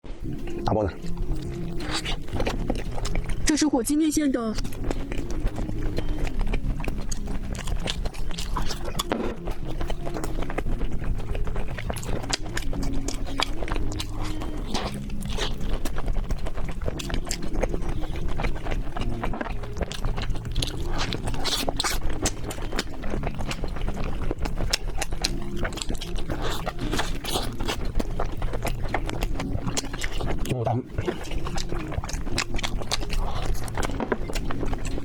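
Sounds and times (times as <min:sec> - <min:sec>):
mouth chewing with wet clicks: 0:00.2 - 0:35.0.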